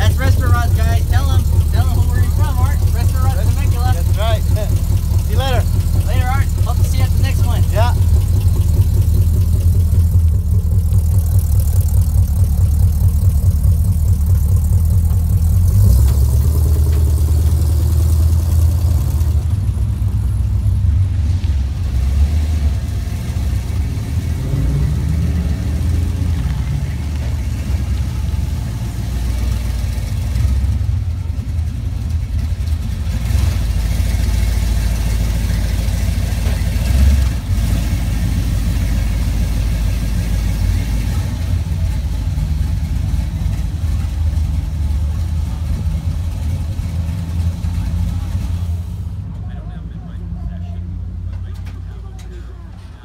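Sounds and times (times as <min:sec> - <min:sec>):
truck engine revving pulling away: 0:00.0 - 0:49.3
pickup truck engines idling: 0:00.0 - 0:53.0.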